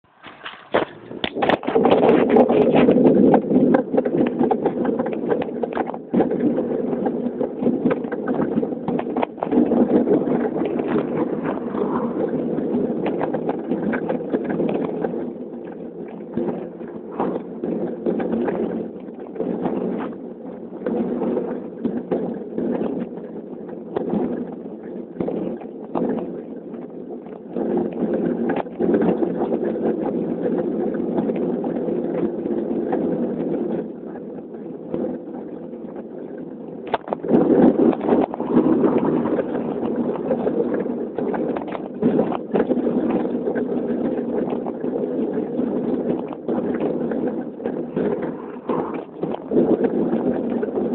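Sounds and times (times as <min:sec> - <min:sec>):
wind rushing on microphone: 0:00.0 - 0:50.9
bicycle riding clicks and knocks: 0:00.1 - 0:50.9.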